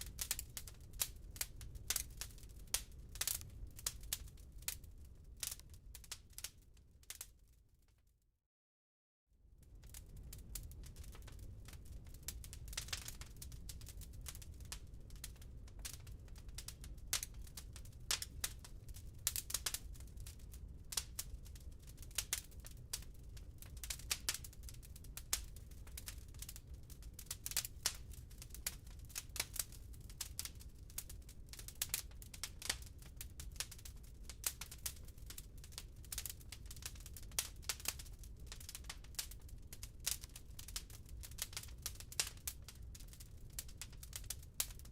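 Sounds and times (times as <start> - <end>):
wood fire crackling and popping: 0.0 - 7.4, 9.6 - 44.9.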